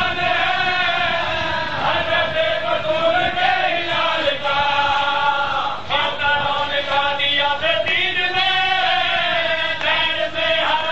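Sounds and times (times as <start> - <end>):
men chanting: 0.0 - 10.9.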